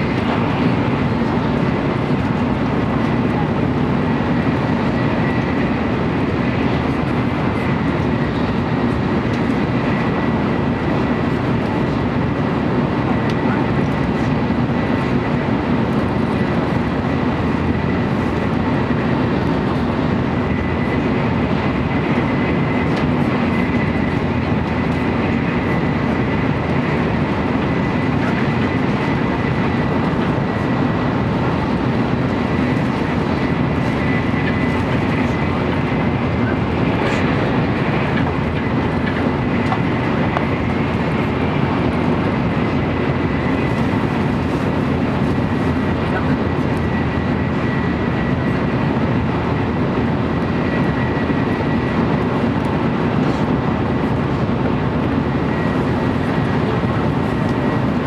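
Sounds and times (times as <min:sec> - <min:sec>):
train rolling and wind noise: 0:00.0 - 0:58.0.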